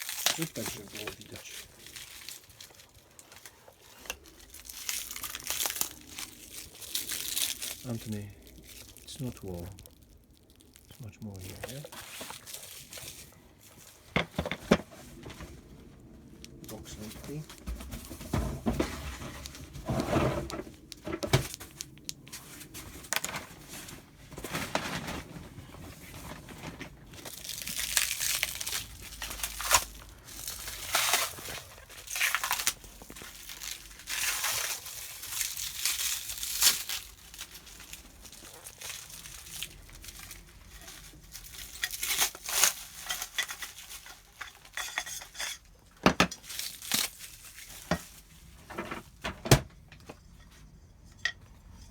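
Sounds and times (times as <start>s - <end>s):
wrapping crinkling and rustling: 0.0s - 49.3s.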